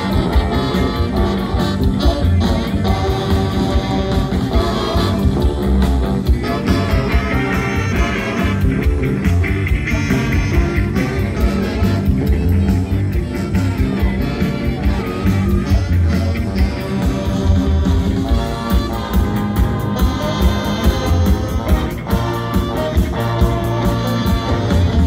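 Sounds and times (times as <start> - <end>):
saxophones and trombones: 0.0 - 25.0.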